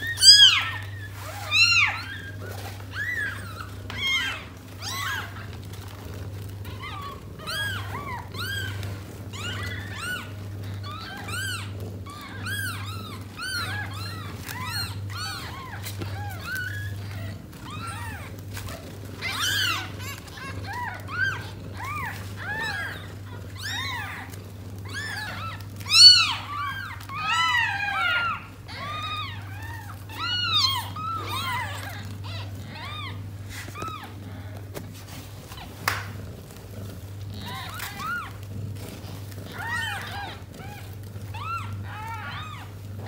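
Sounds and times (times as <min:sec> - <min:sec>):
kittens mewing: 0:00.0 - 0:43.0.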